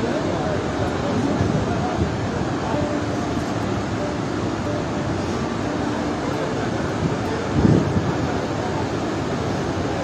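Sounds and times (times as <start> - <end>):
muddy flood torrent rushing: 0.0 - 10.0.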